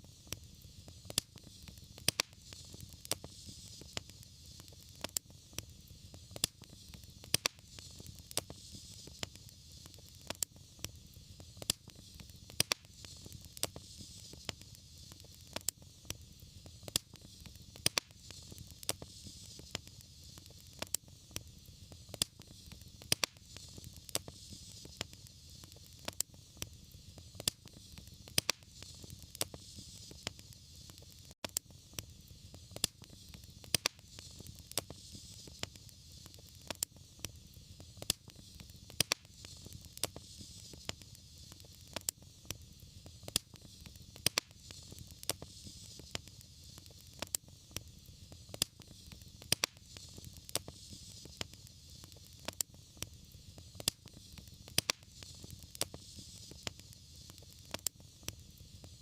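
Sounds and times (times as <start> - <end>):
fire crackles and pops: 0.0 - 59.0
fire hiss and rumble: 0.0 - 59.0.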